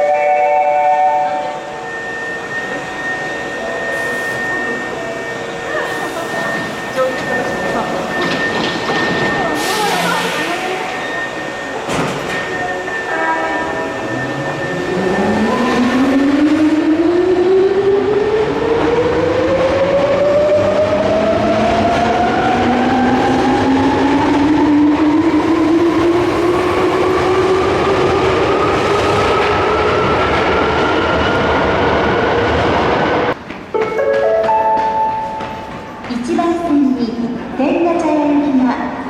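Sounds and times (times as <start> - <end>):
train running on rails: 0.0 - 39.0.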